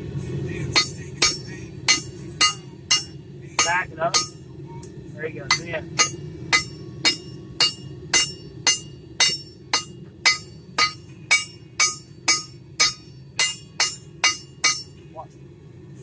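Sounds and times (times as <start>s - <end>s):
hammer ringing on anvil: 0.7s - 4.4s, 5.5s - 15.0s.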